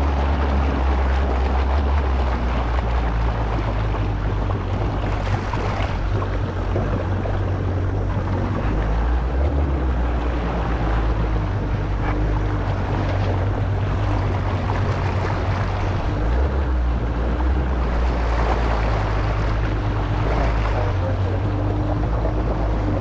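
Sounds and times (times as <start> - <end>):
jet ski engine humming: 0.0 - 23.0
water noise: 0.0 - 23.0
wind noise: 0.0 - 23.0.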